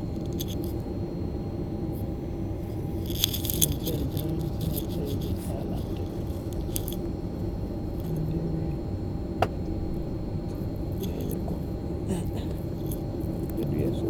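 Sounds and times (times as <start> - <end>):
airliner cabin rumble: 0.0 - 14.0
faint steady hum: 0.0 - 14.0.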